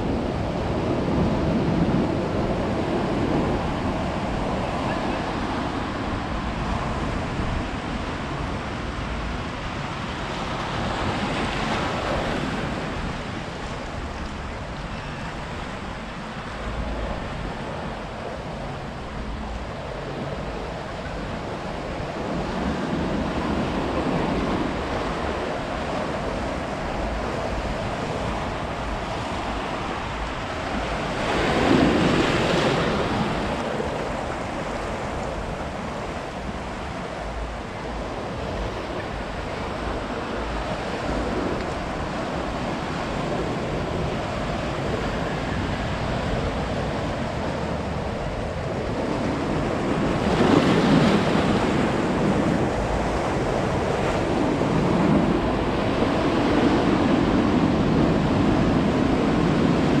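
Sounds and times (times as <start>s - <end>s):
ocean waves breaking: 0.0s - 60.0s.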